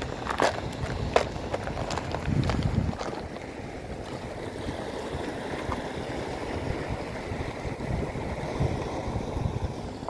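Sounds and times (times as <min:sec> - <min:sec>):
waves washing on stony shore: 0:00.0 - 0:10.0
wind rumbling on microphone: 0:00.0 - 0:10.0.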